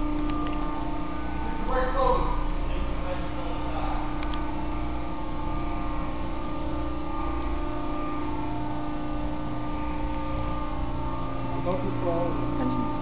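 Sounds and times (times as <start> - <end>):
ship machinery humming: 0.0 - 13.0.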